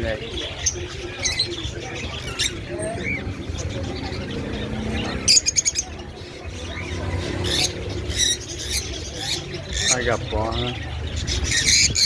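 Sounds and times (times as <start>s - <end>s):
small parrots chirping: 0.4s - 12.0s.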